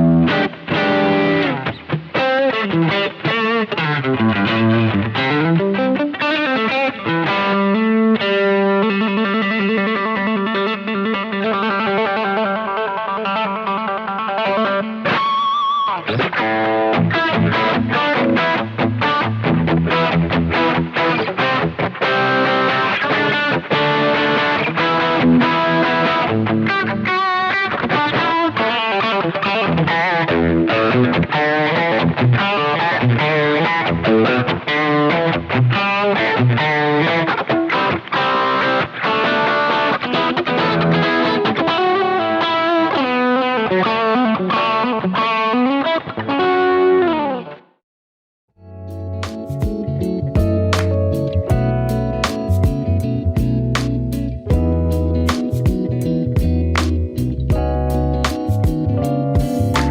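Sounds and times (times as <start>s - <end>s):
overdriven electric guitar: 0.0s - 47.8s, 48.7s - 59.9s.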